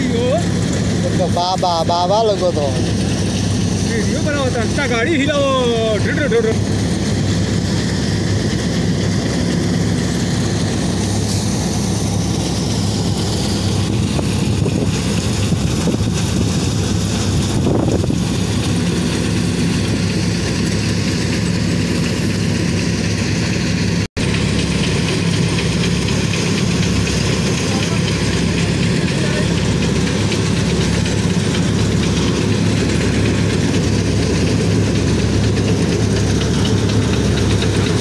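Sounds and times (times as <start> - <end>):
engine running: 0.0 - 38.0
thresher droning: 0.0 - 38.0.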